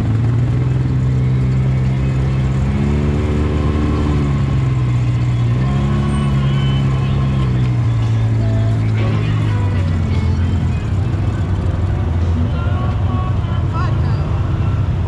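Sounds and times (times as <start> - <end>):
utv engine revving: 0.0 - 15.0.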